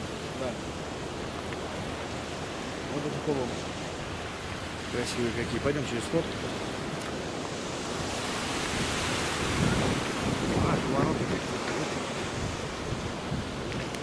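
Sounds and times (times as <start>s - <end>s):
sea waves washing: 0.0s - 14.0s
wind on microphone: 0.0s - 14.0s.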